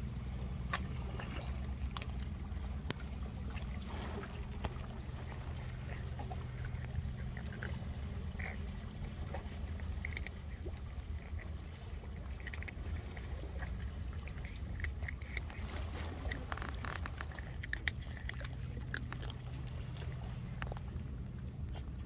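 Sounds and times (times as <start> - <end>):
low background rumble: 0.0 - 22.0
cats crunching dry kibble: 0.5 - 22.0.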